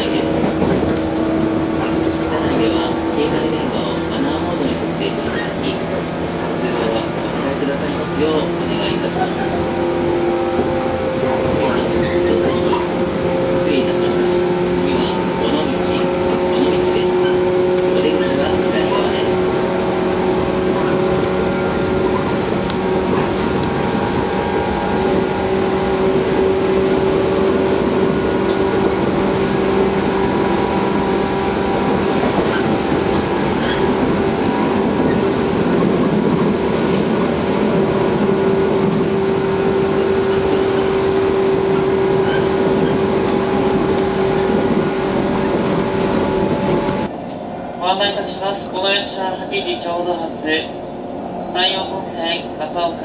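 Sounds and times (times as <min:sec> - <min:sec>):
wheels rumbling on rails: 0:00.0 - 0:53.0.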